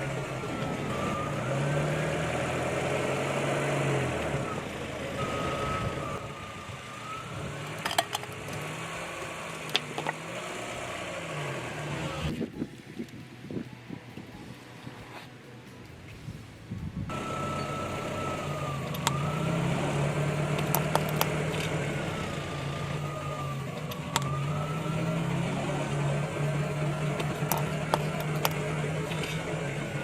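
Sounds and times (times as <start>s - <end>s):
tire crushing objects with sharp cracks: 0.0s - 12.4s, 17.1s - 30.0s
car engine running: 0.0s - 13.6s, 15.4s - 30.0s.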